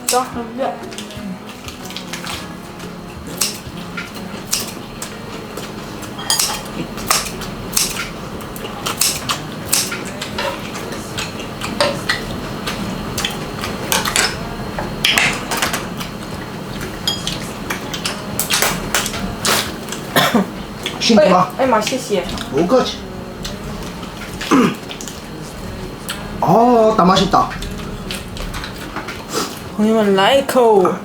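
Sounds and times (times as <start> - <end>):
utensils clinking on plates: 0.0 - 29.8.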